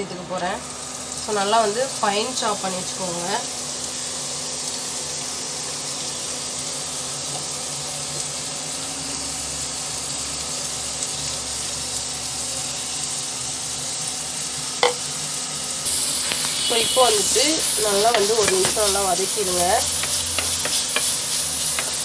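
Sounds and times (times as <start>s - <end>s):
oil sizzling in pan: 0.1s - 22.0s.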